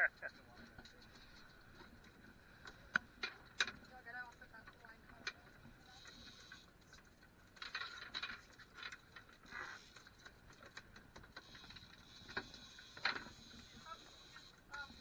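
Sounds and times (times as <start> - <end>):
light clicks and rattles: 0.0 - 15.0.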